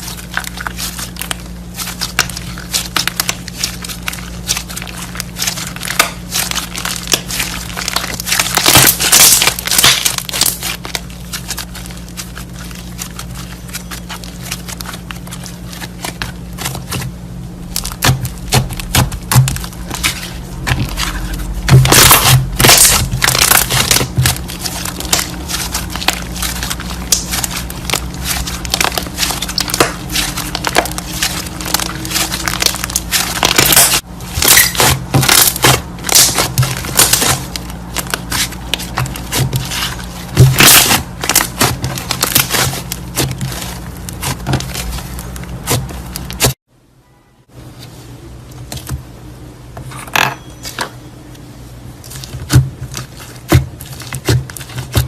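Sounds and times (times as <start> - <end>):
slime squished by hand: 0.0 - 46.6
steady low hum: 0.0 - 55.0.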